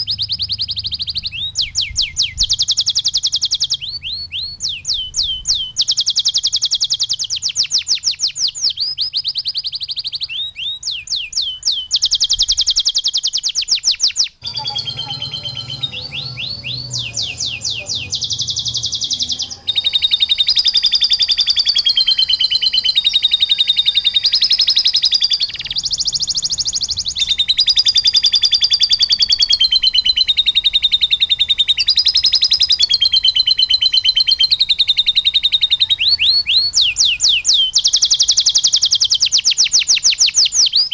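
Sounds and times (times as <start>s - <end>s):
canary singing rapid trills: 0.0s - 40.9s.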